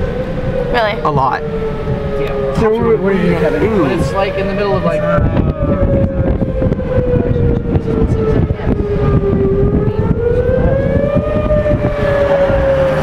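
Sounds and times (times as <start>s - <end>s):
loud low rumble: 0.0s - 13.0s
warning siren wailing: 0.0s - 13.0s.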